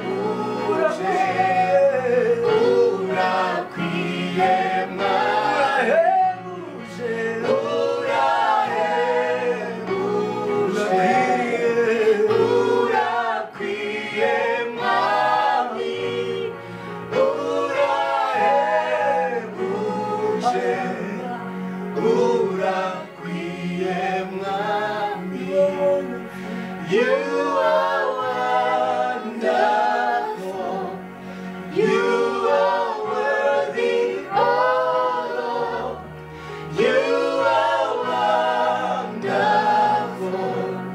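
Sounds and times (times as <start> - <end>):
group singing gospel in harmony: 0.0 - 40.9.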